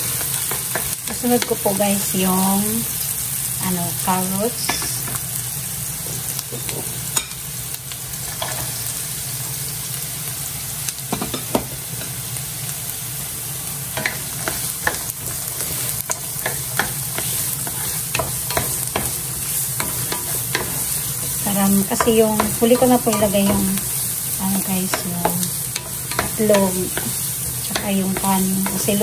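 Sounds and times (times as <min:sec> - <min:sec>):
onion sizzling in oil: 0:00.0 - 0:29.0.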